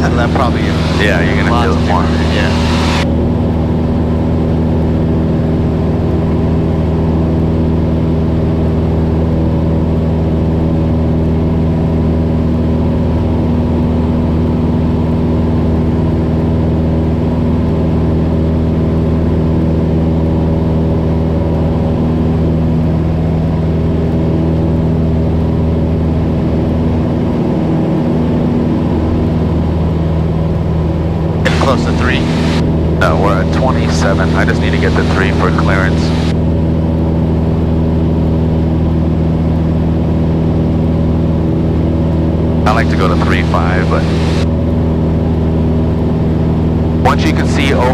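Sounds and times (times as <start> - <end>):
airplane engine and propeller drone: 0.0 - 47.9.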